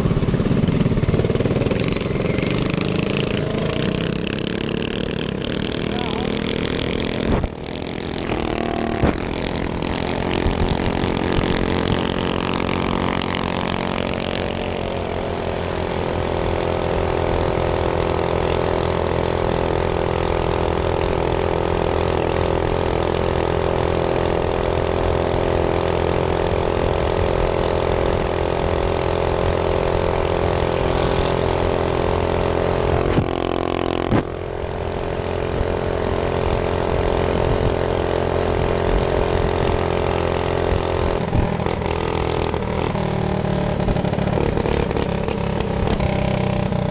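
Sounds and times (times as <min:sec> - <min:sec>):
minibike engine running: 0:00.0 - 0:46.9.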